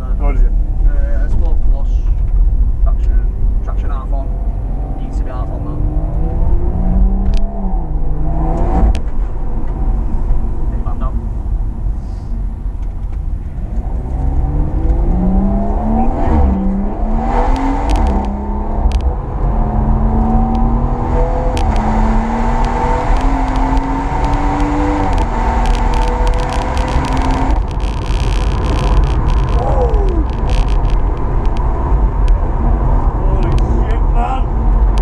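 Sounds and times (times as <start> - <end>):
car engine accelerating hard: 2.9 - 35.0.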